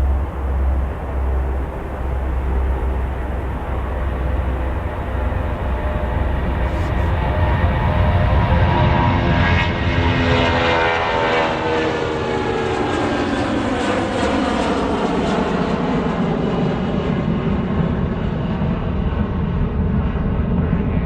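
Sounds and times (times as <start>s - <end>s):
aircraft passing close by: 0.0s - 21.0s.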